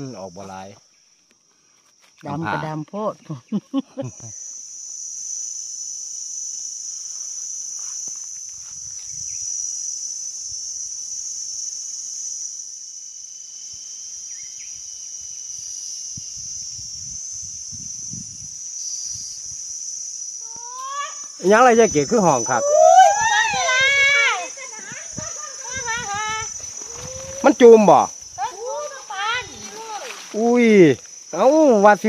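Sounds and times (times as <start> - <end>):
insect chorus drone: 0.0 - 32.0.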